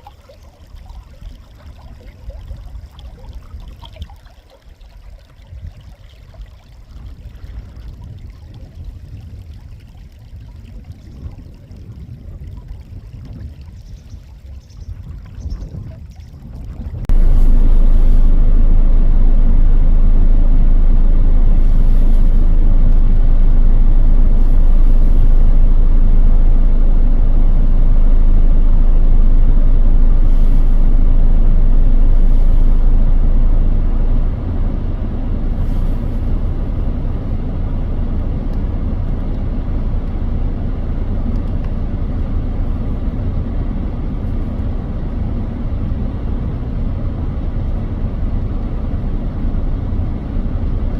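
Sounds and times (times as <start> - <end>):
strong wind buffeting microphone: 5.4 - 46.7.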